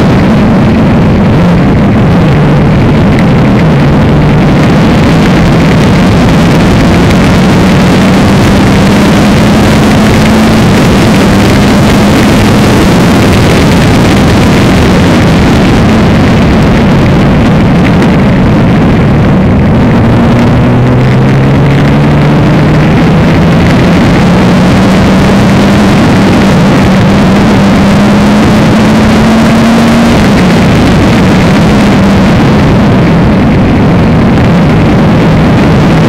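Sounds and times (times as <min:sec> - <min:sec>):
racing car engine: 0:00.0 - 0:36.0
wind and road noise: 0:00.0 - 0:36.0.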